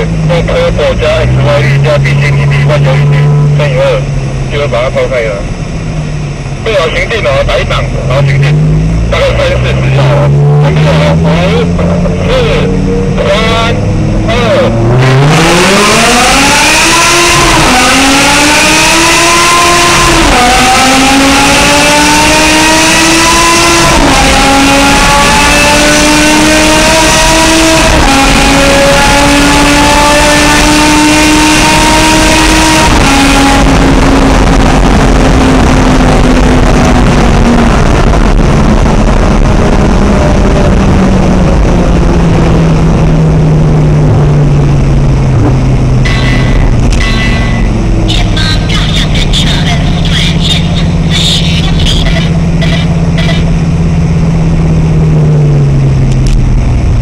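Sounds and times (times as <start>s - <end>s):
car engine accelerating through gears: 0.0s - 57.0s
engine echoing in a tunnel: 0.0s - 57.0s.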